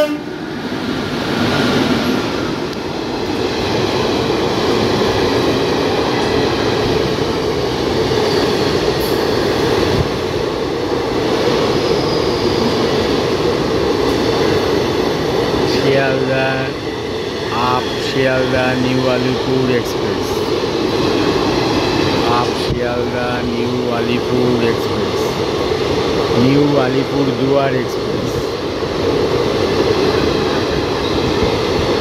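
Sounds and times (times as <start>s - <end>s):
rush of train wheels on rail: 0.0s - 32.0s.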